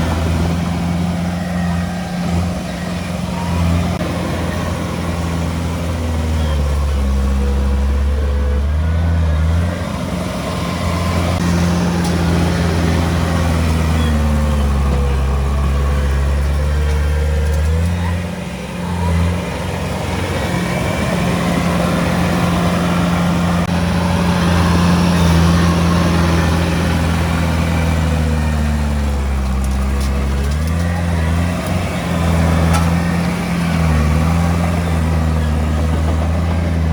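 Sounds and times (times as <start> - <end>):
bulldozer diesel engine: 0.0 - 36.9.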